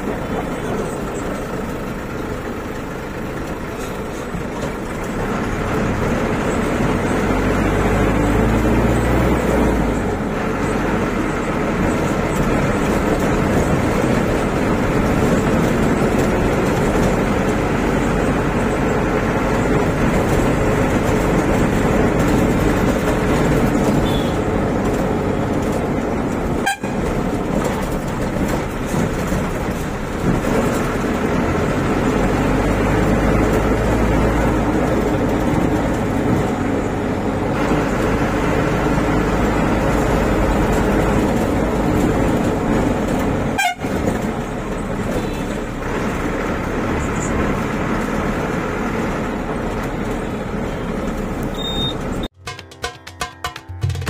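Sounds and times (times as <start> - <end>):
van engine: 0.0 - 52.4
road noise: 0.0 - 54.0.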